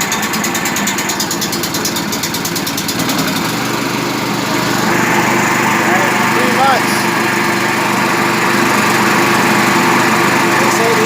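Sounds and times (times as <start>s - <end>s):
gas engine running: 0.0s - 11.0s.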